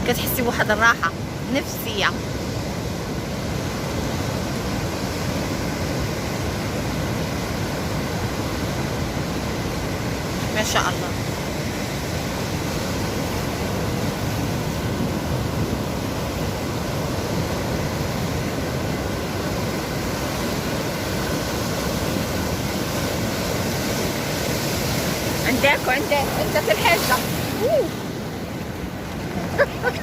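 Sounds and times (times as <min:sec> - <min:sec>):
sea surf breaking on shore: 0:00.0 - 0:30.0.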